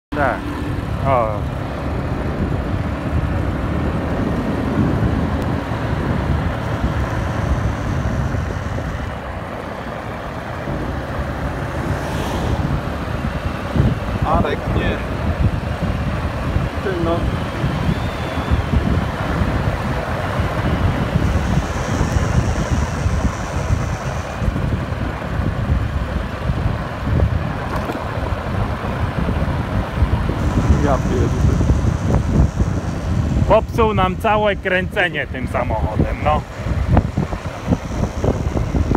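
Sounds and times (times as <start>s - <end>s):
vehicle driving on road: 0.0s - 38.9s
wind buffeting microphone: 0.2s - 38.9s.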